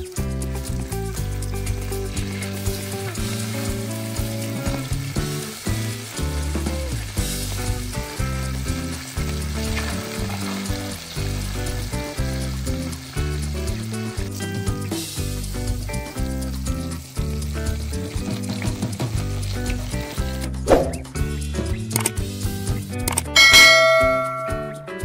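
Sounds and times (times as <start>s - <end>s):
fish sizzling in hot oil: 0.0s - 23.0s
background music: 0.0s - 25.0s.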